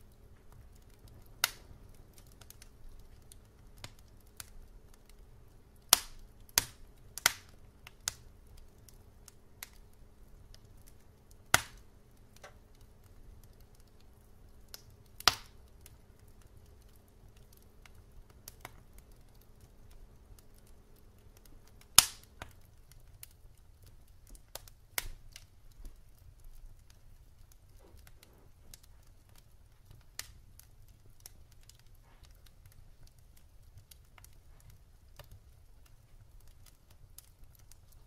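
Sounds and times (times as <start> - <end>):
flames rumbling: 0.0 - 38.0
wood fire popping: 0.0 - 38.0.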